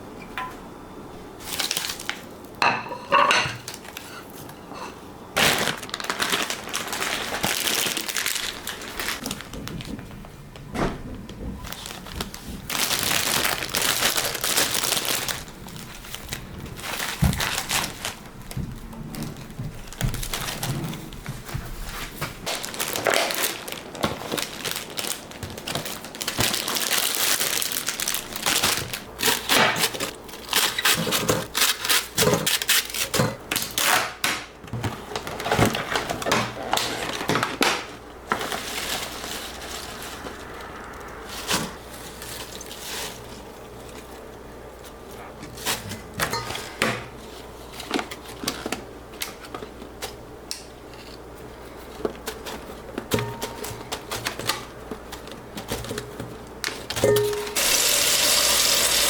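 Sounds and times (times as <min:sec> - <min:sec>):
crinkling: 0:05.4 - 0:59.0.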